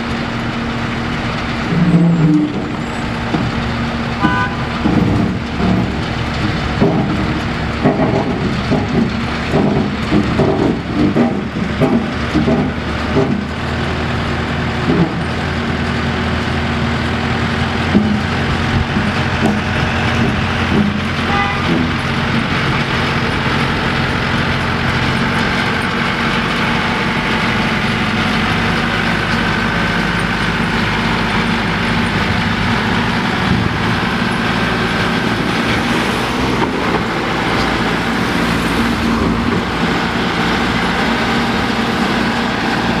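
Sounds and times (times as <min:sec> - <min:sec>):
heavy vehicle engine running: 0:00.0 - 0:43.0.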